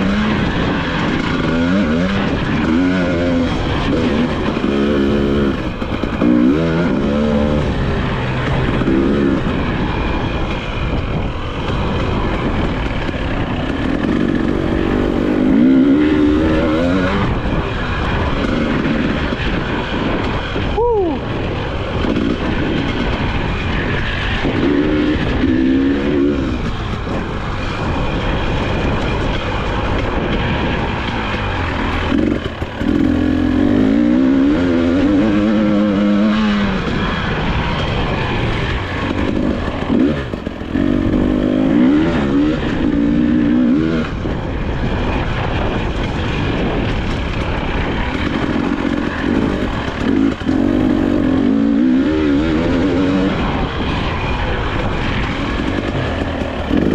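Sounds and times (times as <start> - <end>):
constant rushing noise: 0.0 - 56.9
dirt bike engine revving: 0.0 - 56.9.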